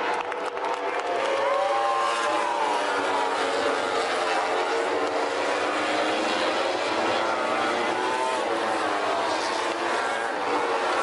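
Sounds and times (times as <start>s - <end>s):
racing motorcycles passing: 0.0s - 11.0s.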